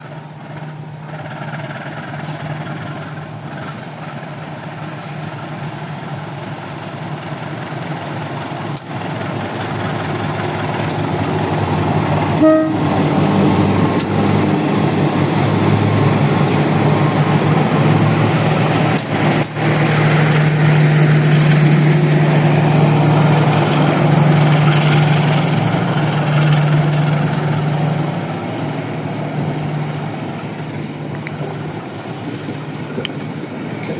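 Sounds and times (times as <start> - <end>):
locomotive engine drone: 0.0 - 33.9
train running noise: 0.0 - 33.9.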